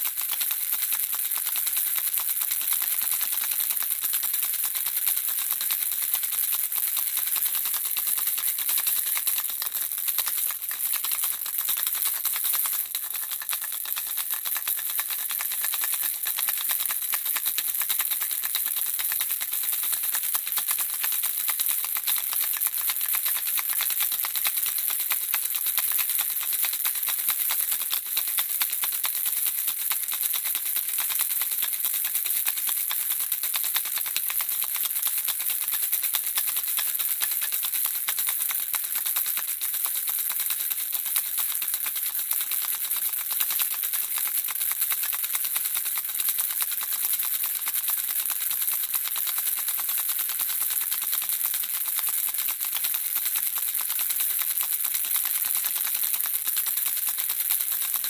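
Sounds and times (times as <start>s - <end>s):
baby rattle shaken: 0.0s - 58.0s.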